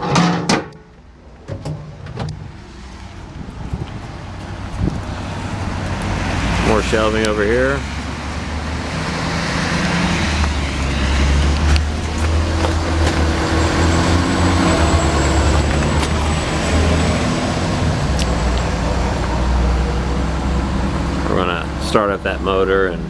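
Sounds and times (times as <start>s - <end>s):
diesel engine idling: 4.4s - 23.0s.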